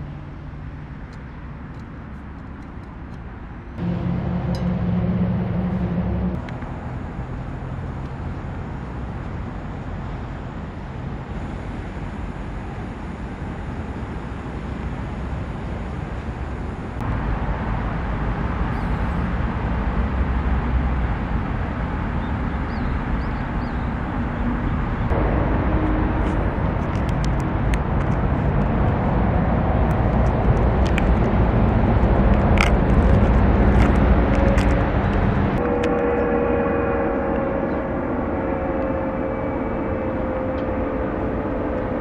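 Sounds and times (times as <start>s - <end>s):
wind on microphone: 8.2s - 42.0s.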